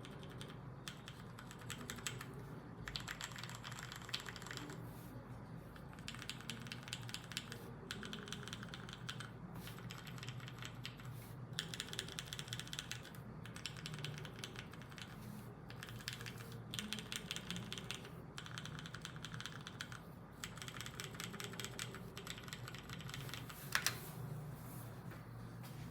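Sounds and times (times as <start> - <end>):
mechanical keyboard typing: 0.0 - 4.8, 5.8 - 24.0.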